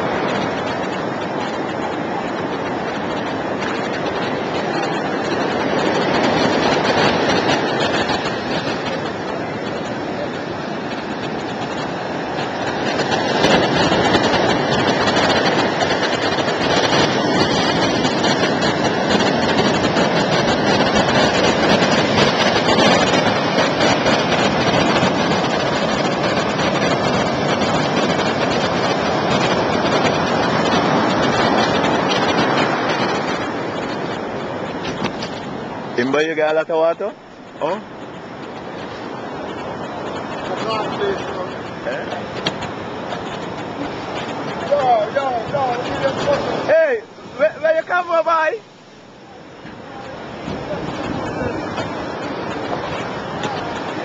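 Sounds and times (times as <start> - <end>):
surf breaking on rocks: 0.0 - 54.0
wind buffeting microphone: 0.0 - 54.0.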